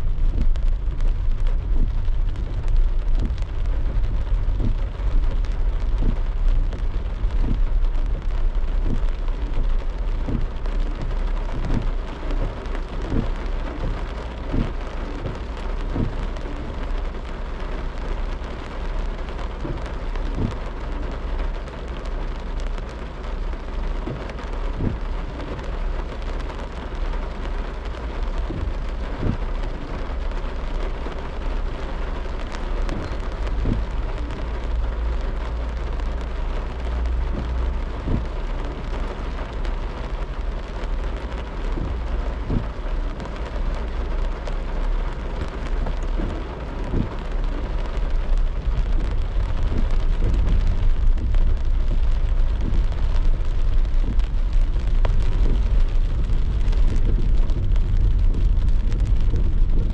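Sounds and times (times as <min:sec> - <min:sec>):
low road rumble: 0:00.0 - 0:59.9
rain and wet tyres hissing: 0:00.0 - 0:59.9
raindrops tapping: 0:00.0 - 0:59.9.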